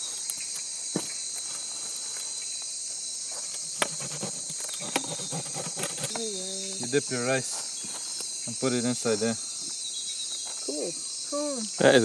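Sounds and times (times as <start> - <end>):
insect chorus chirring drone: 0.0 - 12.0.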